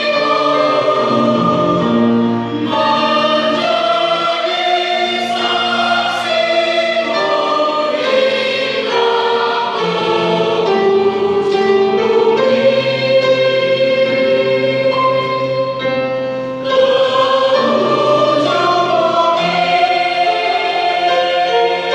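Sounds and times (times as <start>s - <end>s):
choir singing in harmony: 0.0s - 21.9s.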